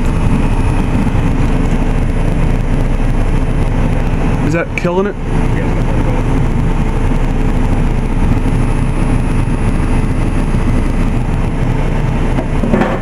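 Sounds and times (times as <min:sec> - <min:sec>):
faint steady hum: 0:00.0 - 0:13.0
heat pump fan rushing: 0:00.0 - 0:13.0.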